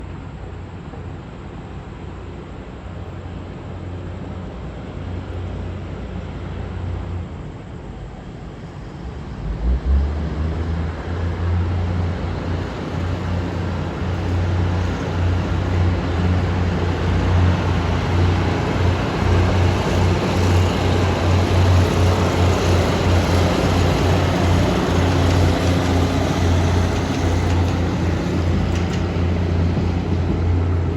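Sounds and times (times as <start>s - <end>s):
diesel locomotive engine hum: 0.0s - 30.9s.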